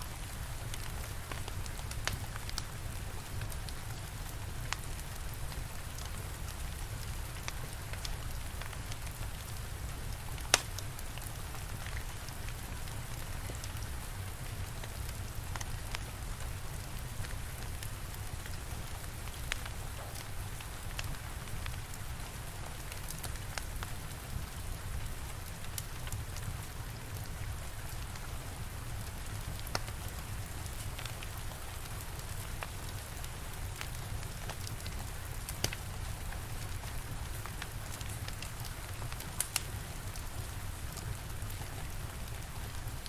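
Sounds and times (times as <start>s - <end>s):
steady rainfall: 0.0s - 43.0s
wood fire crackling and popping: 0.1s - 43.0s.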